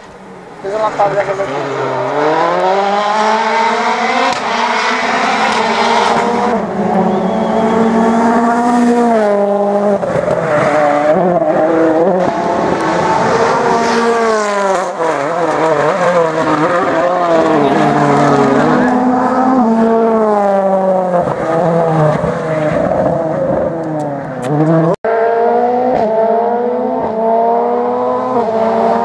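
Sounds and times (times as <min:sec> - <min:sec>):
rally car engine revving: 0:00.8 - 0:29.0.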